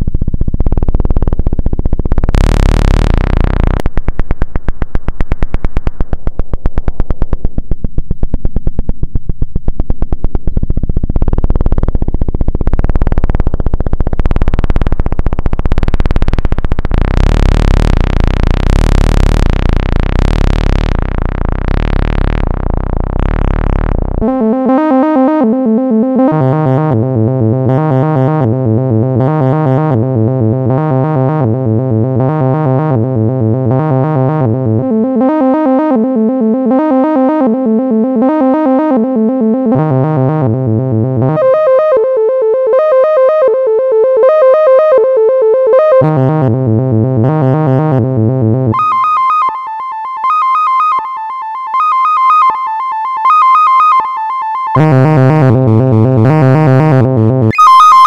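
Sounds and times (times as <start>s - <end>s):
deep low tone: 0.0s - 49.6s, 54.7s - 58.0s
throbbing electronic tones: 0.0s - 58.0s.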